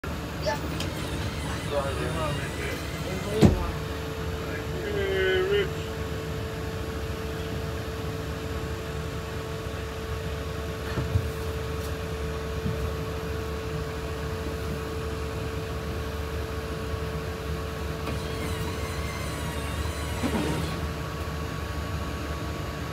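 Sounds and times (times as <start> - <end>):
constant hum: 0.0 - 22.9
jet engines rumbling overhead: 0.1 - 22.9.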